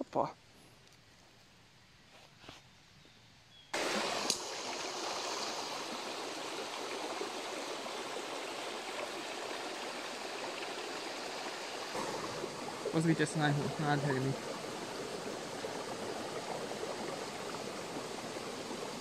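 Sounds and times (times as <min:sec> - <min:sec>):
creek flowing over stones: 0:03.8 - 0:19.0.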